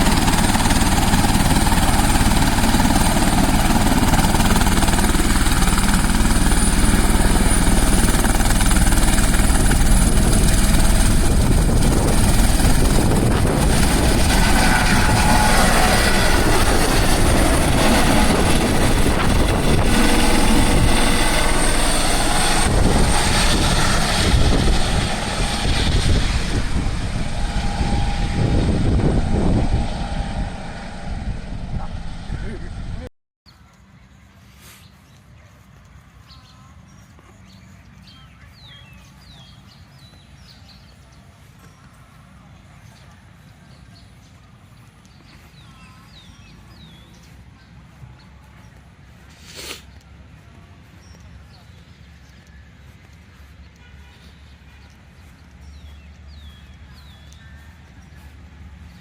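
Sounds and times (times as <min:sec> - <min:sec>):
helicopter rotor and engine: 0:00.0 - 0:33.1, 0:36.8 - 0:59.0.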